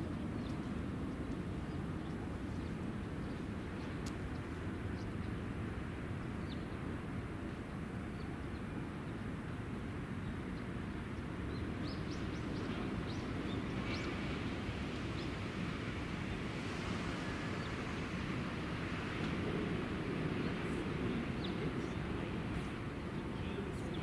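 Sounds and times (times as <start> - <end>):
low rumble of rail traffic: 0.0 - 24.0.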